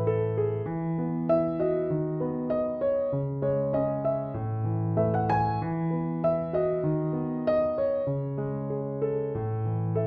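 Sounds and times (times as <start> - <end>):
gentle piano tune: 0.0 - 10.0.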